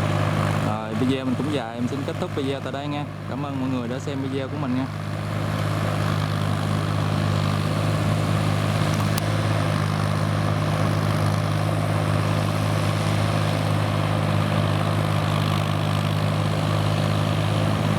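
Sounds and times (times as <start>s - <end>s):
rotary tiller: 0.0s - 17.9s
tractor diesel engine running: 0.0s - 17.9s.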